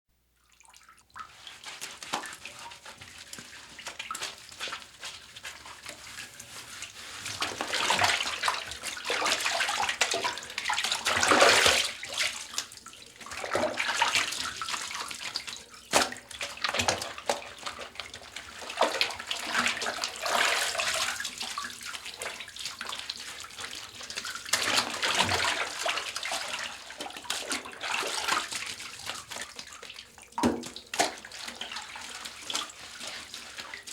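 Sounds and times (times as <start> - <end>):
water splashing in bathtub: 0.4 - 33.9.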